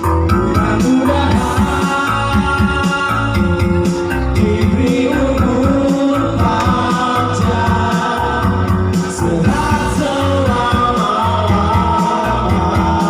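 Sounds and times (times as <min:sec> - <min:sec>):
dance music with singing: 0:00.0 - 0:13.0.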